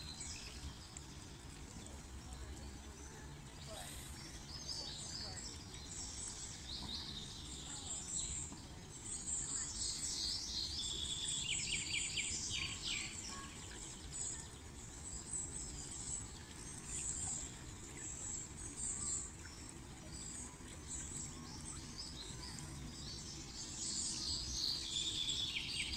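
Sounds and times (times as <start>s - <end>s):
birds chirping and singing: 0.0s - 25.9s.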